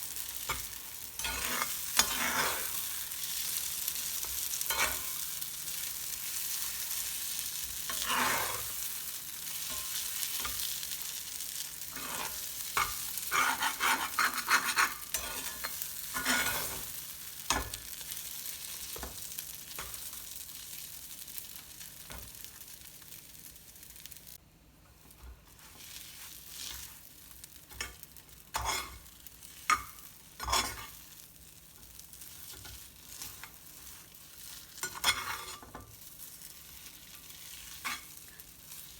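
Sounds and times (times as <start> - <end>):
spatula scraping a pan: 0.0 - 20.8, 25.0 - 38.9
food sizzling in hot oil: 0.0 - 38.9.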